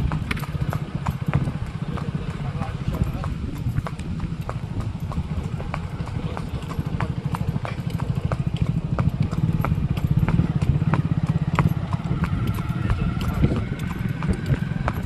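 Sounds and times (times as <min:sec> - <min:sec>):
constant low rumble: 0:00.0 - 0:15.0
horse hooves clip-clopping: 0:00.0 - 0:15.0.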